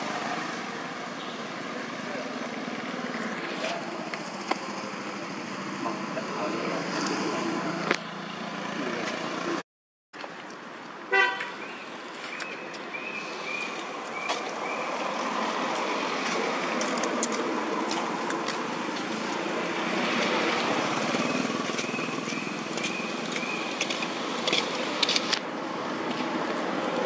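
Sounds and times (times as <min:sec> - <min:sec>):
road traffic hum: 0:00.0 - 0:09.6, 0:10.2 - 0:27.0.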